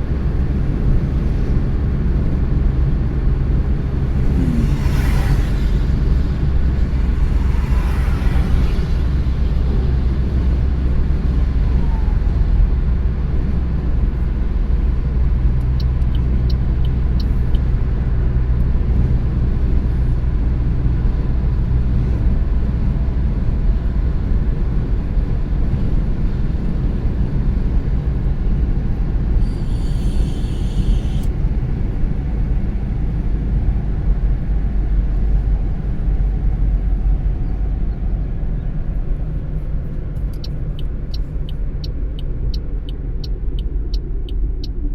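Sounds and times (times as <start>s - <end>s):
car driving at road speed: 0.0s - 44.9s.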